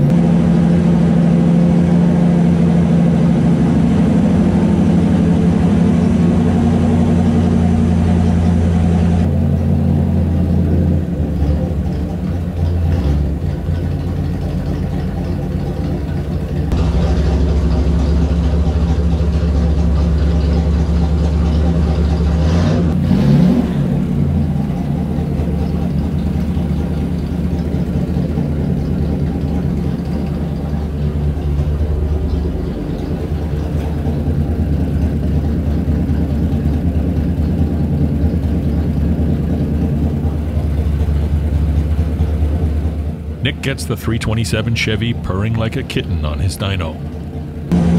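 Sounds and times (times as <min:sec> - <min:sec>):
engine running on dyno: 0:00.0 - 0:47.9.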